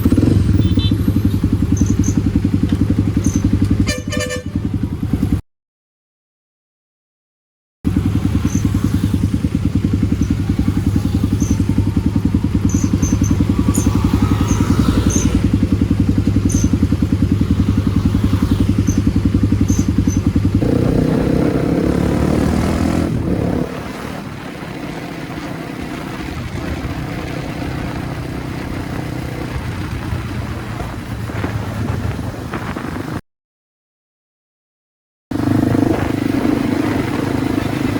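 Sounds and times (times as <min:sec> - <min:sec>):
motorcycle engine running: 0:00.0 - 0:05.4, 0:07.9 - 0:33.2, 0:35.3 - 0:37.9.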